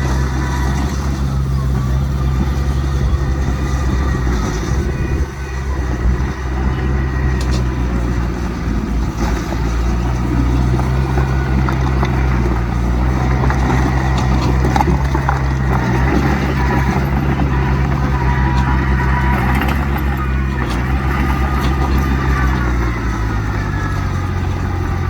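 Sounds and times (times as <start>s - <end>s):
heavy diesel engine humming: 0.0s - 25.0s.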